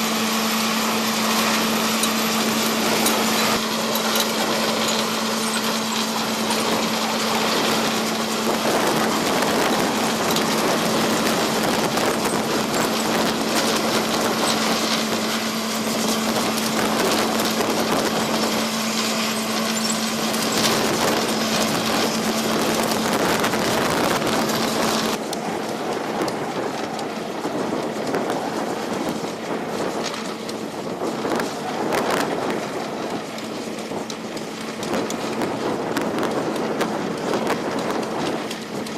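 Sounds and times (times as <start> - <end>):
engine hum: 0.0 - 38.9
trencher grinding and rattling: 0.0 - 38.9.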